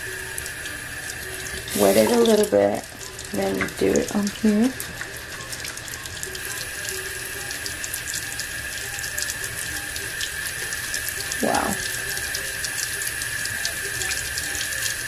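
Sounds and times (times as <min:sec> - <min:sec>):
tap running into a sink: 0:00.0 - 0:15.0.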